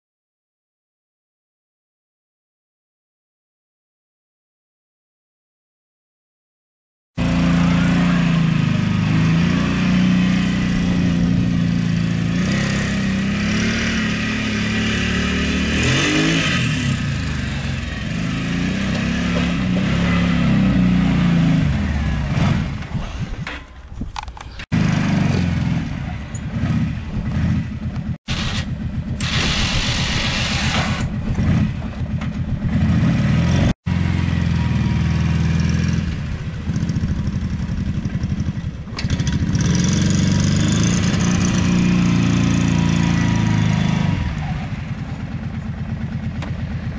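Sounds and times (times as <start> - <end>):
atv engine revving: 7.2 - 46.9.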